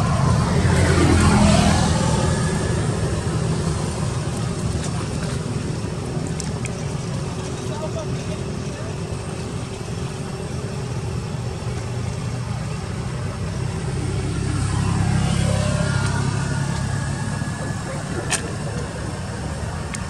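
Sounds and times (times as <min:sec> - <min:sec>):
vehicle engine rumbling past: 0:00.0 - 0:20.0.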